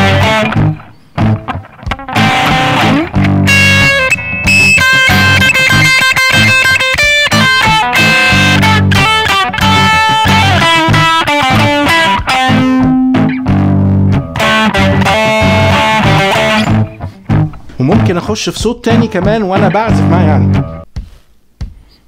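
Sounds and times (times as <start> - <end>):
electric guitar lead lines: 0.0 - 20.8
looped backing track: 0.0 - 22.0.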